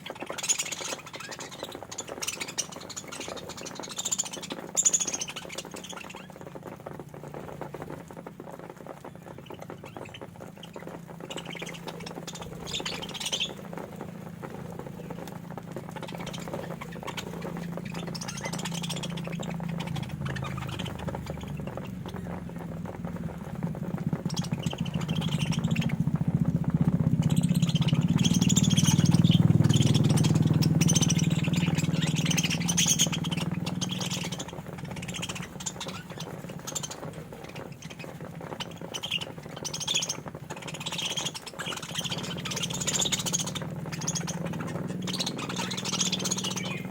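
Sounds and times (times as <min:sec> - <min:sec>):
budgerigars chirping and squawking: 0:00.0 - 0:46.9.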